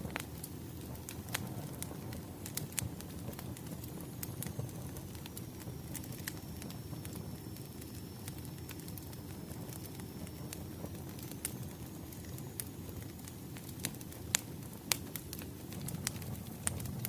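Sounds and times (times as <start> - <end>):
burning logs rumbling: 0.0 - 17.0
fire popping and snapping: 0.0 - 17.0.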